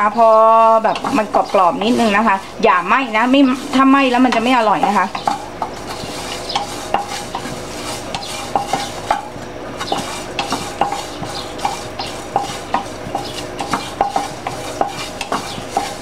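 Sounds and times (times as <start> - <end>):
spatula scraping a frying pan: 0.0 - 16.0
spatula knocking against pan: 0.6 - 2.0, 3.6 - 16.0.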